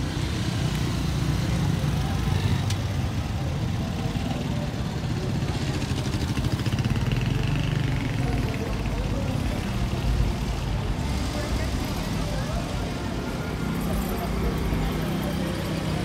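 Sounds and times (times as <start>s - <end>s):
vehicle engines at low speed: 0.0s - 16.0s.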